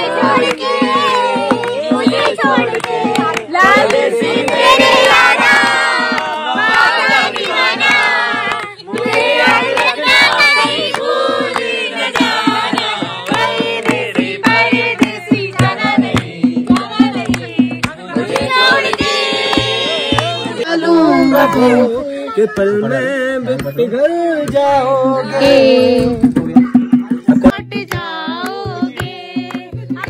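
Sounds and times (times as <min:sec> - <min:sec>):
dholak drum beat: 0:00.0 - 0:30.0
people singing together: 0:00.0 - 0:30.0.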